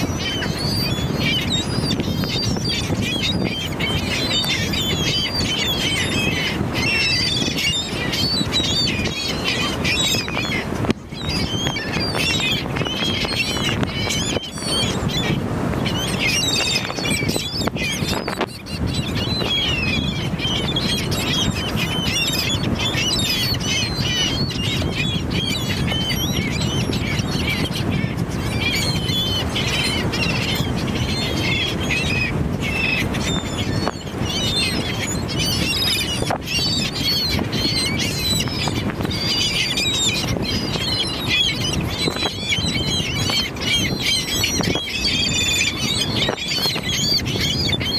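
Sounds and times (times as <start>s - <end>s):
sea birds squawking: 0.0s - 47.9s.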